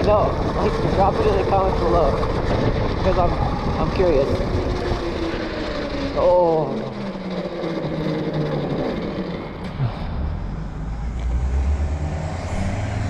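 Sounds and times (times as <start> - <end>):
low hum: 0.0 - 13.0
wind and tyre noise: 0.0 - 13.0.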